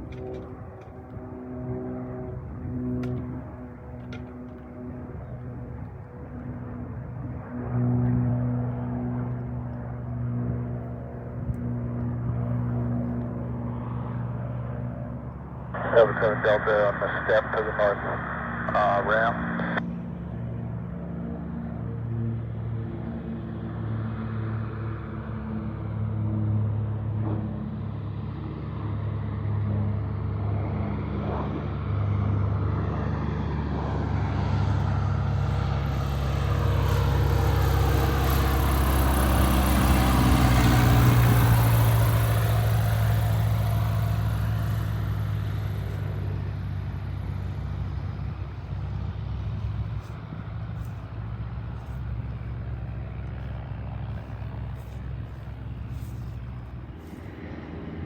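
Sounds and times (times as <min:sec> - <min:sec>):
floatplane engine and propeller passing: 0:00.0 - 0:58.0.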